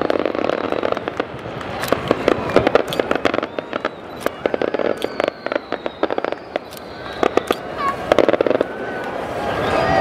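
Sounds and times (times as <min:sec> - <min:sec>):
firework whistle: 0:00.0 - 0:10.0
fireworks bangs: 0:00.0 - 0:10.0
fireworks crackling: 0:00.0 - 0:10.0.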